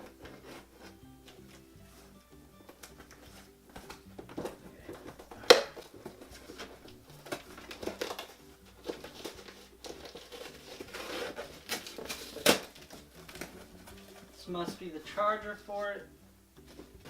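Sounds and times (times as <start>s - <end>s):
packaging rustling and crinkling: 0.0s - 14.7s.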